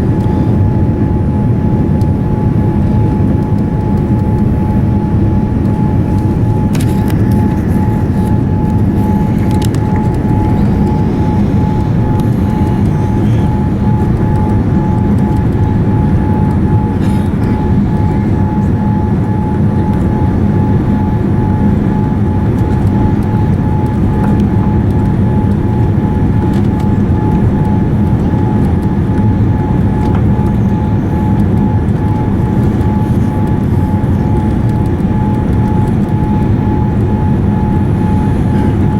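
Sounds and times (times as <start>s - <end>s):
airliner cabin rumble: 0.0s - 38.9s
steady high hum: 0.0s - 38.9s.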